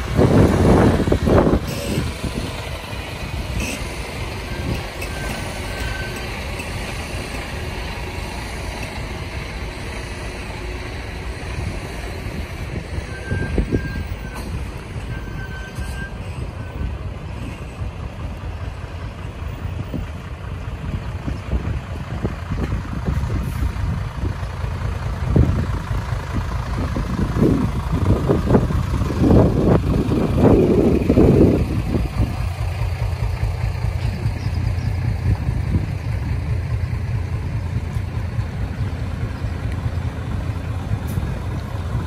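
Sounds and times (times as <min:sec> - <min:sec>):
diesel truck engines rumbling: 0:00.0 - 0:42.0.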